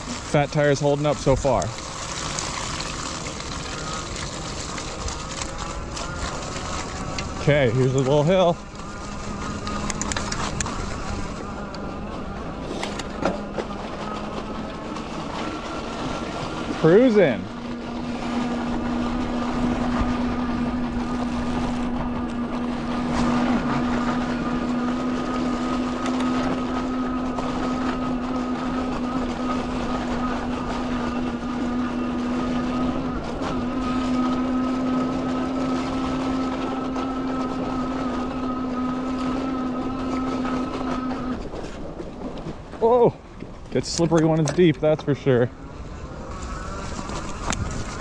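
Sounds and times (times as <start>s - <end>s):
electric hub motor whining: 0.0s - 48.0s
tires rolling through snow: 0.0s - 48.0s.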